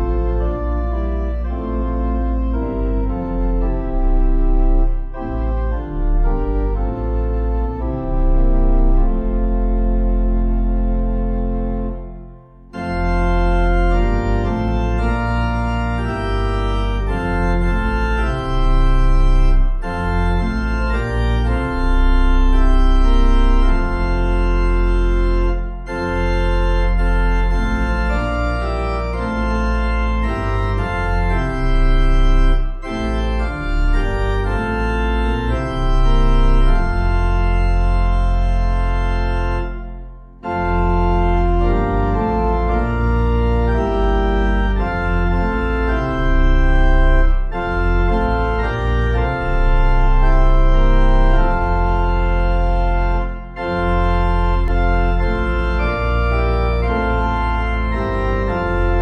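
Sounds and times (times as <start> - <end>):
organ playing a hymn: 0.0 - 59.0.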